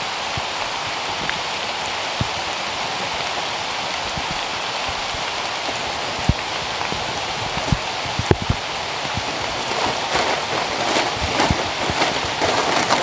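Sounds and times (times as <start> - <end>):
heavy raindrops thudding: 0.0 - 13.0
steady rain falling: 0.0 - 13.0.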